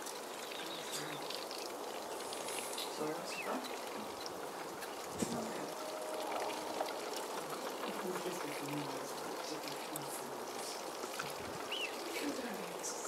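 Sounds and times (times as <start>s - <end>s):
trickling rushing water: 0.0s - 13.0s.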